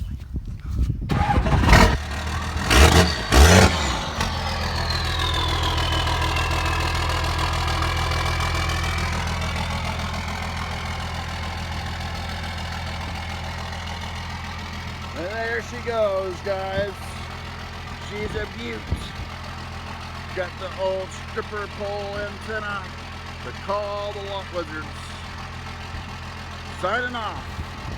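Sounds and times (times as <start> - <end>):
diesel engine starting and idling: 1.0 - 27.9.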